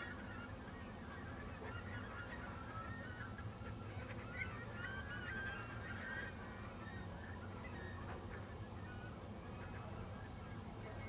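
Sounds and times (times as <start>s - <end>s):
flock of birds calling: 0.0s - 11.0s
low steady hum: 0.0s - 11.0s.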